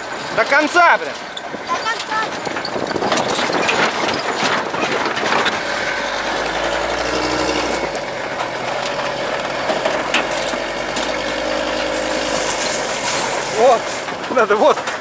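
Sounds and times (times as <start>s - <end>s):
knocks and rattles: 0.0s - 15.0s
truck engine running: 0.0s - 15.0s.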